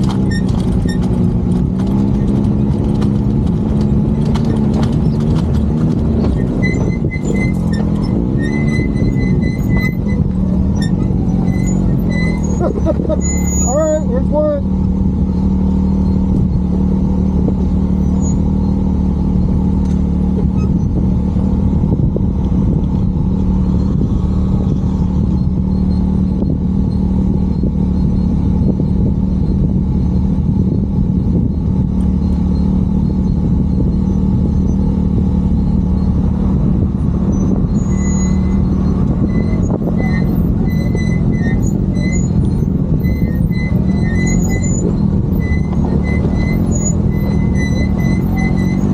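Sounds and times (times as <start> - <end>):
road noise: 0.0 - 48.9
vehicle engine droning: 0.0 - 48.9.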